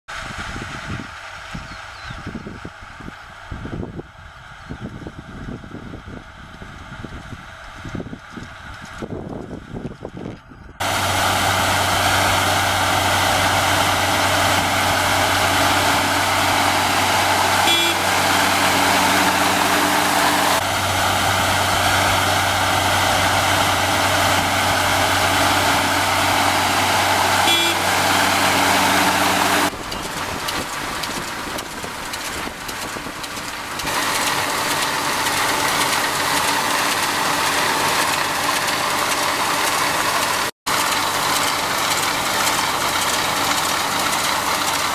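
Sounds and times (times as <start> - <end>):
tractor diesel engine running: 0.1 - 44.9.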